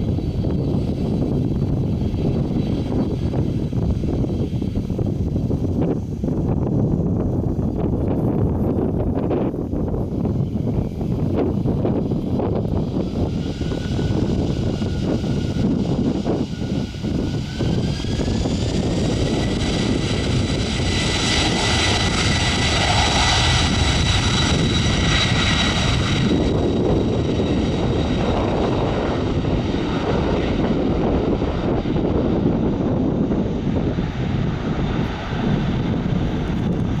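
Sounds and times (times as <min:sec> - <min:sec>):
jet engine heavy rumble: 0:00.0 - 0:37.0
jet engine high whine: 0:00.0 - 0:37.0.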